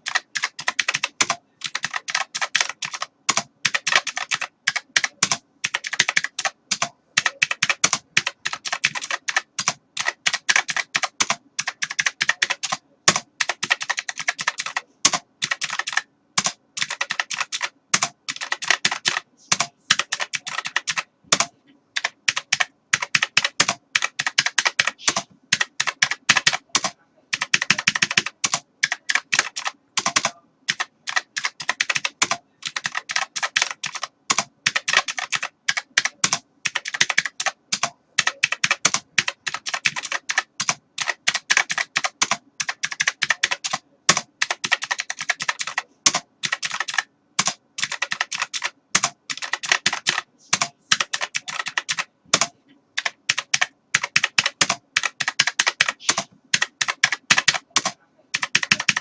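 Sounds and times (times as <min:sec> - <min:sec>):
computer keyboard typing: 0:00.0 - 0:59.0.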